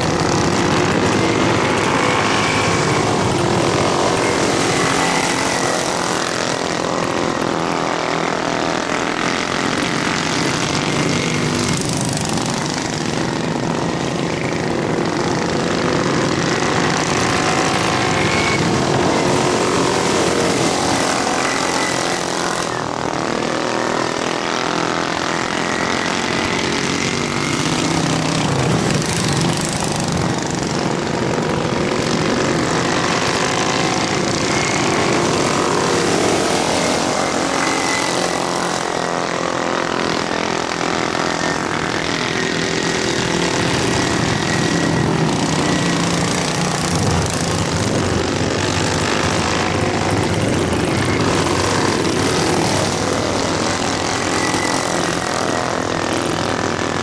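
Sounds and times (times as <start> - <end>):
racing lawn mower engines: 0.0 - 57.0.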